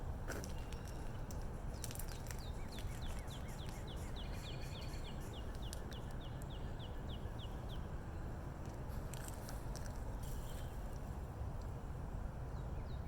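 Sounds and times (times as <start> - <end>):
low rumble of outdoor noise: 0.0 - 13.0.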